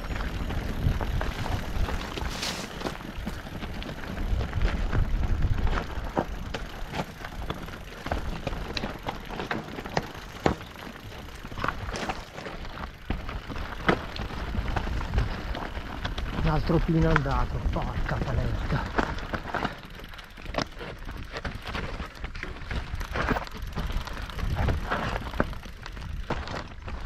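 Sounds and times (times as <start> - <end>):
wind rumble: 0.0 - 19.6, 21.0 - 27.0
bike rattling over stones: 0.0 - 27.0
bike tyres on stony trail: 0.0 - 27.0.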